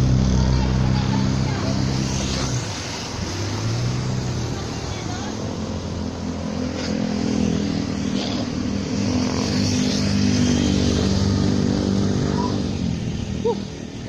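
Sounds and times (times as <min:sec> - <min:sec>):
motorcycle engine going by: 0:00.0 - 0:13.8
highway traffic passing: 0:00.0 - 0:14.0.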